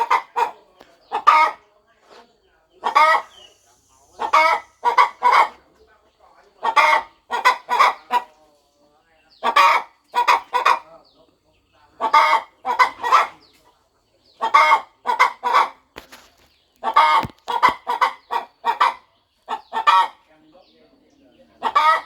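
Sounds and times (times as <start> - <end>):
hen clucking: 0.0 - 22.0.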